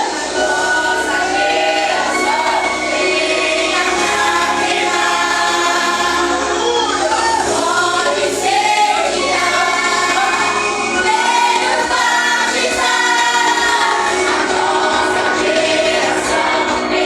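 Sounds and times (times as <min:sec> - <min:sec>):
group singing worship song: 0:00.0 - 0:17.0
worship band playing: 0:00.0 - 0:17.0.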